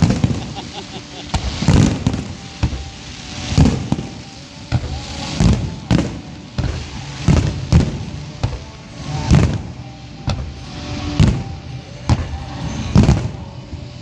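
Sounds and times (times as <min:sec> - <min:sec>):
fireworks booming bangs: 0:00.0 - 0:14.0.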